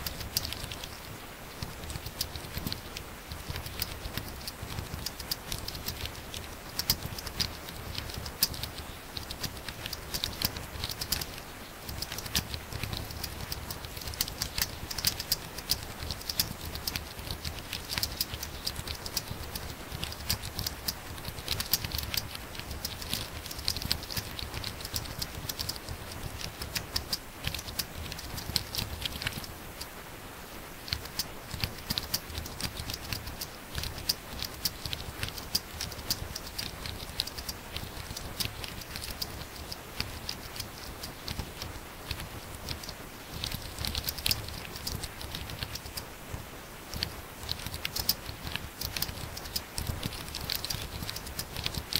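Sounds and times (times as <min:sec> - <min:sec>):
fast laptop keyboard typing: 0:00.0 - 0:29.9, 0:30.8 - 0:51.9.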